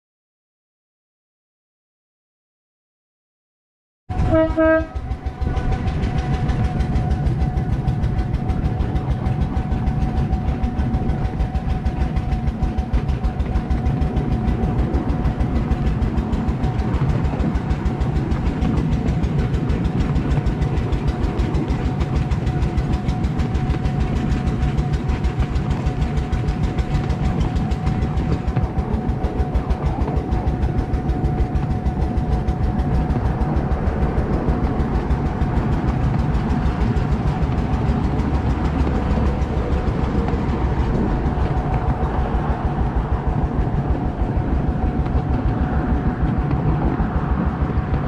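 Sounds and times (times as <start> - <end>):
miniature locomotive throbbing: 4.1 - 48.0
steady high whine: 4.1 - 48.0.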